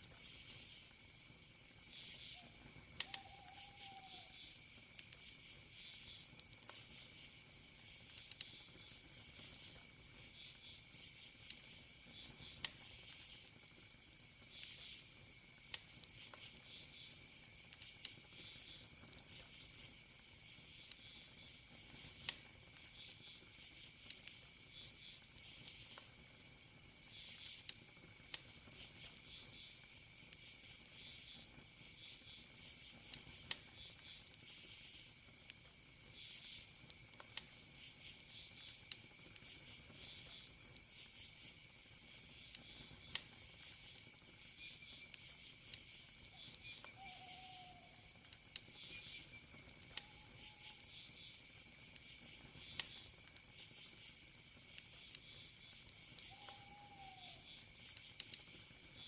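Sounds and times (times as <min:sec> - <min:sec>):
campfire crackling and popping: 0:00.0 - 0:59.0
crickets chirping: 0:00.0 - 0:59.0
high insect trill: 0:00.1 - 0:59.0.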